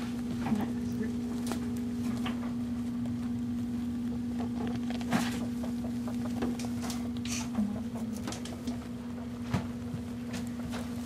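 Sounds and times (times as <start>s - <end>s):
low machine hum: 0.0s - 11.0s
soft rustles and clicks: 0.0s - 11.0s.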